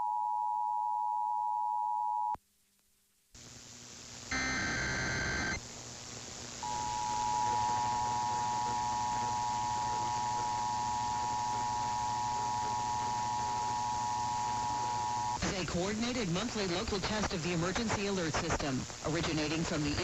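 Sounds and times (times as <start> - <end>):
radio static: 3.4 - 20.0.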